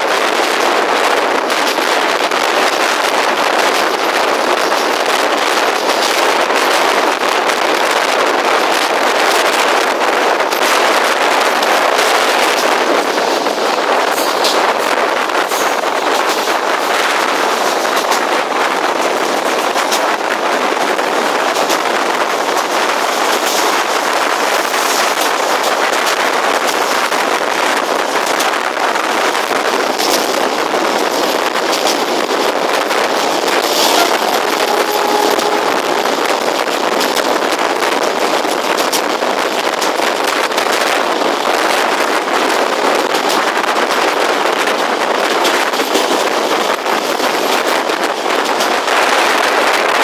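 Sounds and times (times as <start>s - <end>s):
moving train and air rush: 0.0s - 50.0s.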